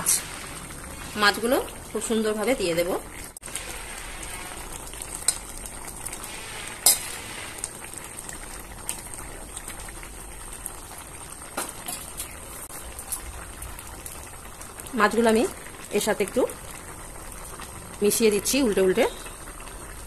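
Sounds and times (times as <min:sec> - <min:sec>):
curry bubbling at a simmer: 0:00.0 - 0:20.0.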